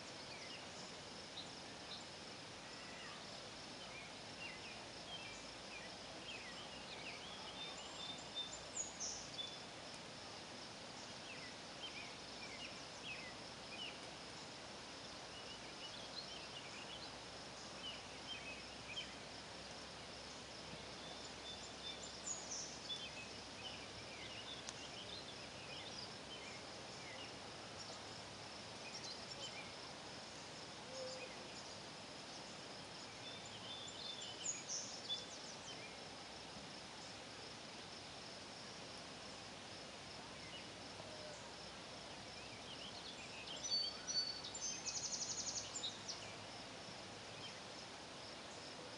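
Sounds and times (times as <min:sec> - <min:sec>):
high insect trill: 0:00.0 - 0:48.9.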